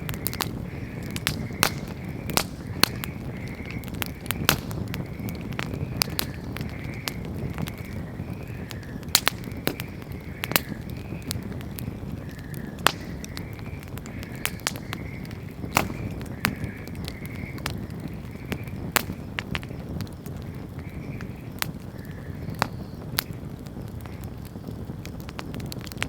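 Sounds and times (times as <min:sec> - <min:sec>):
fire rumbling: 0:00.0 - 0:26.0
wood crackling and popping: 0:00.0 - 0:26.0.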